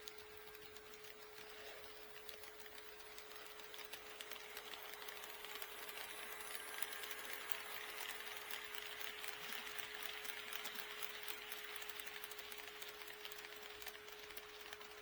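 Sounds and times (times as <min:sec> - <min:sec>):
model train motor whir: 0:00.0 - 0:15.0
wheels clicking on rails: 0:00.0 - 0:15.0.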